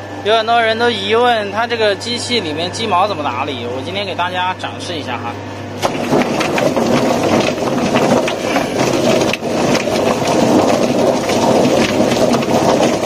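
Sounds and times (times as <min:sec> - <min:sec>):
poultry plucker churning: 0:00.6 - 0:13.0.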